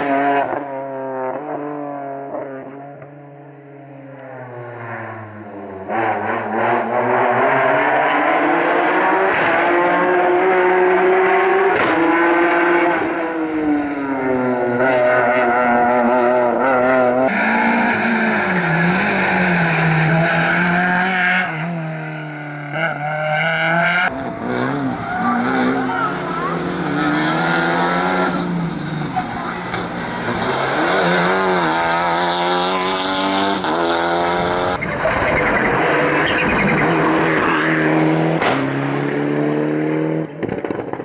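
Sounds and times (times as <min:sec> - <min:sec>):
rally car engine accelerating: 0:00.0 - 0:41.0.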